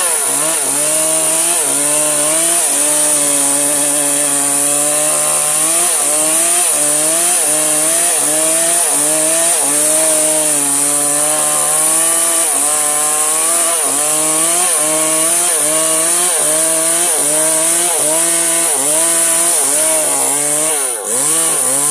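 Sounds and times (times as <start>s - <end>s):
electric chainsaw cutting wood: 0.0s - 21.9s.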